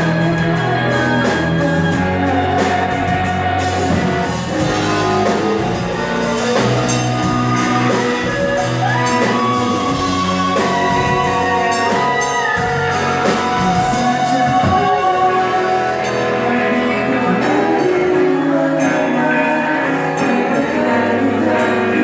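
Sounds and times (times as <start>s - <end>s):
bass guitar: 0.0s - 22.0s
drum kit beat: 0.0s - 22.0s
electric guitars: 0.0s - 22.0s
lead vocal singing: 0.0s - 22.0s.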